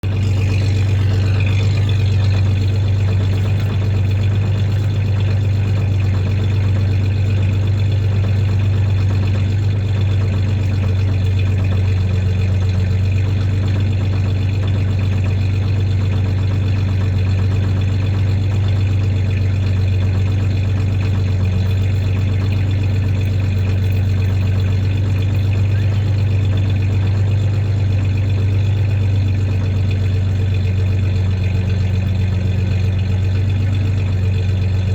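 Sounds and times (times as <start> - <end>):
engine idling with misfire: 0.0 - 34.9.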